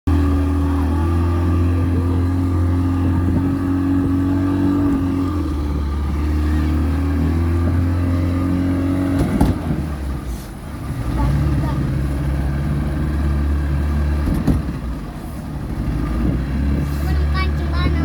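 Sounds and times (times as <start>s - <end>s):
motorboat engine drone: 0.1s - 18.0s.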